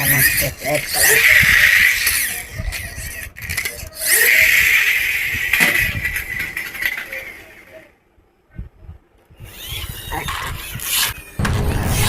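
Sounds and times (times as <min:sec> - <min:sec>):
toy car whirring: 0:00.0 - 0:08.0, 0:09.3 - 0:12.0.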